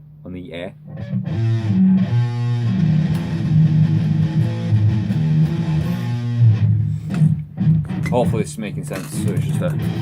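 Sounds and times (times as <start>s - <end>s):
electric guitar riff: 0.9s - 10.0s.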